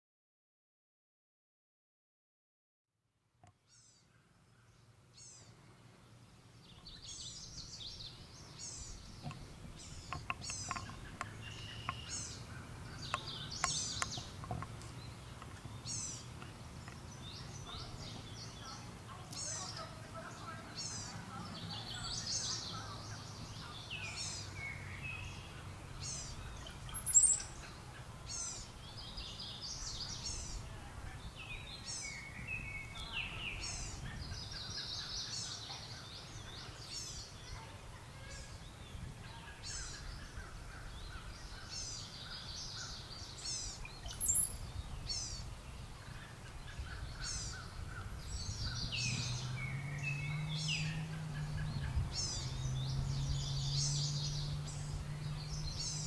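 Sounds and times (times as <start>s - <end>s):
birds calling: 3.7s - 56.0s.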